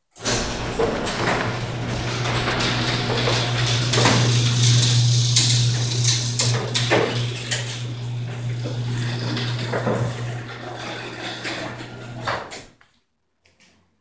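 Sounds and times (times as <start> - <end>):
garage door rattling and clattering: 0.0 - 12.7
garage door opener humming: 0.1 - 12.7.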